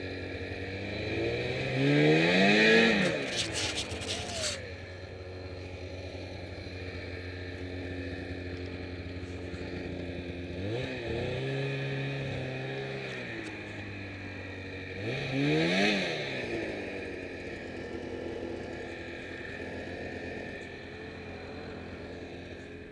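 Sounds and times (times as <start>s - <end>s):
snowmobile engine idling and revving: 0.0s - 22.9s.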